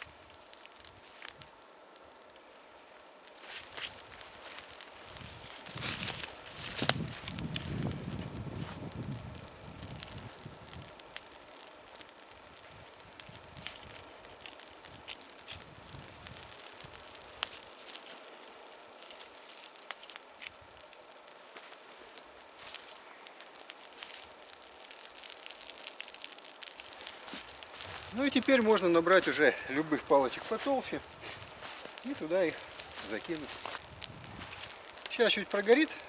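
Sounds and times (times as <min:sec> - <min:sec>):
faint fire hiss: 0:00.0 - 0:36.0
small fire crackling and popping: 0:00.0 - 0:36.0.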